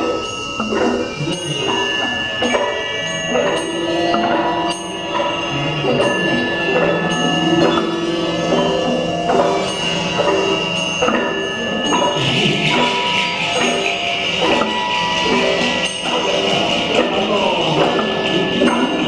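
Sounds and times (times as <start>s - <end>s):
high metallic tone: 0.0s - 19.0s
shimmering jingle: 0.0s - 19.0s.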